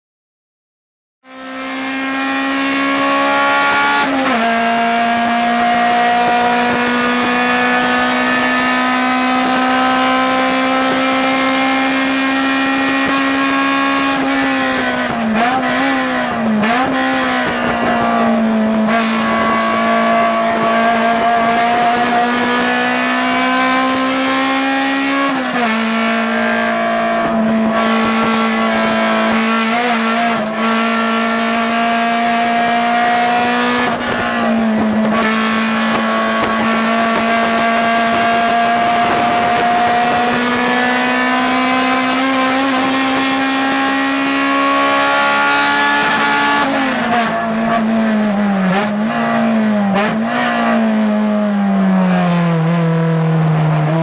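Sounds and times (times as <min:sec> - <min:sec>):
car engine running hard: 0:01.3 - 0:54.0.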